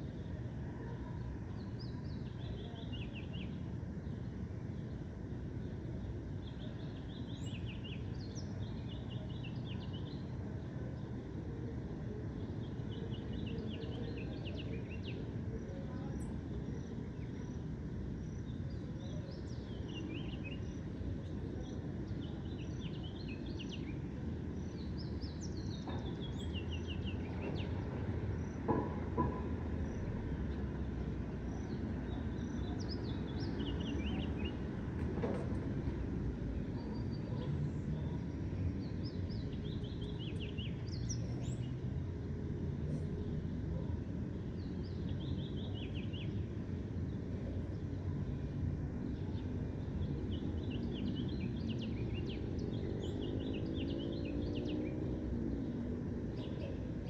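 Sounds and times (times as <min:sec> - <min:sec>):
distant city traffic rumble: 0:00.0 - 0:57.0.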